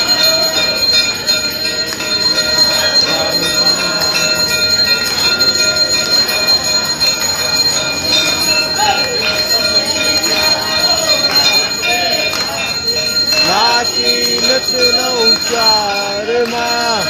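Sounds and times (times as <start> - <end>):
temple bells ringing: 0.0 - 17.0.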